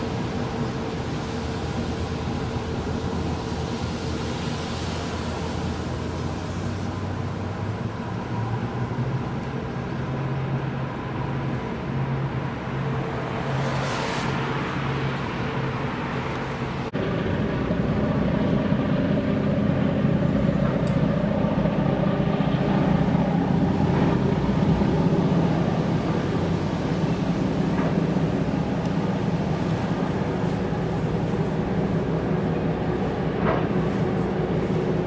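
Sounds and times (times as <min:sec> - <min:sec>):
diesel engines droning: 0:00.0 - 0:35.0.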